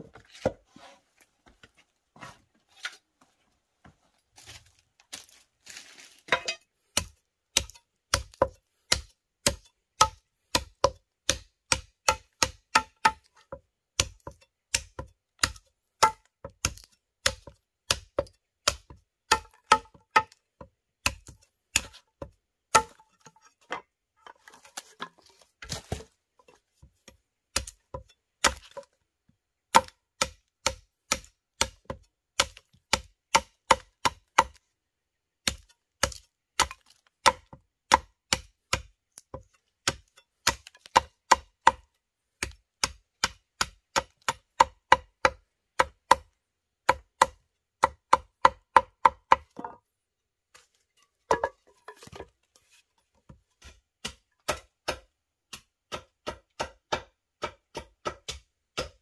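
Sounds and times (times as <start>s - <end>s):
machete chopping wooden pole: 6.3s - 26.1s, 27.0s - 29.0s, 29.7s - 34.6s, 35.4s - 49.8s, 51.3s - 52.3s, 53.3s - 59.0s.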